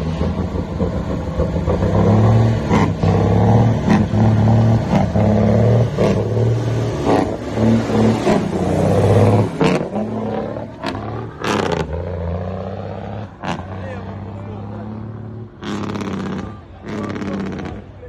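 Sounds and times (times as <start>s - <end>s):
truck engine running hard: 0.0s - 18.0s.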